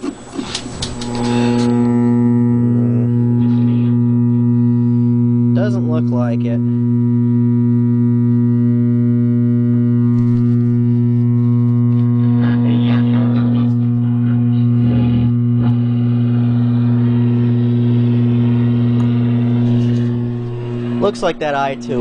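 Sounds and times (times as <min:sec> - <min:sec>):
radio crackling: 0:00.0 - 0:22.0
radio speaker hum: 0:00.0 - 0:22.0.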